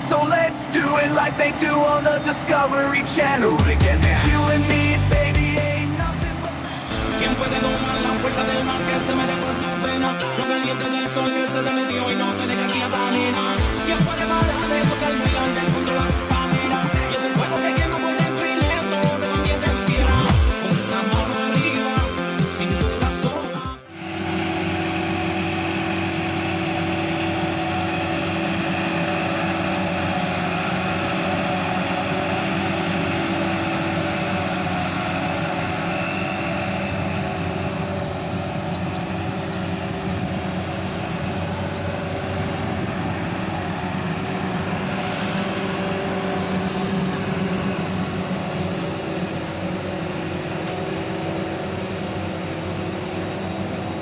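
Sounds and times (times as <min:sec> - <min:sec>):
forage harvester engine droning: 0:00.0 - 0:54.0.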